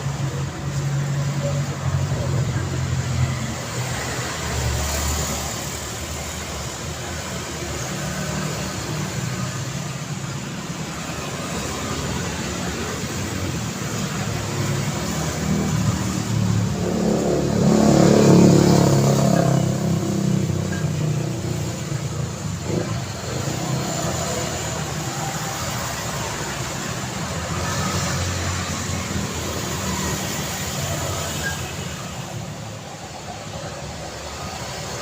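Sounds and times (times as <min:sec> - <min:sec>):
road traffic hum: 0:00.0 - 0:35.0
vehicle engine passing close: 0:00.0 - 0:35.0.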